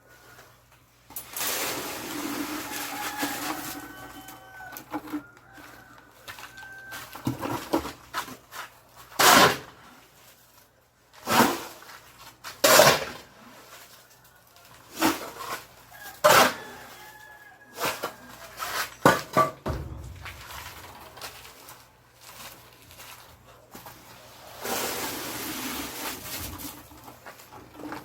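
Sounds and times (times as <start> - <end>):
shovel scraping concrete mix: 1.1 - 5.2, 6.2 - 10.4, 11.1 - 28.0.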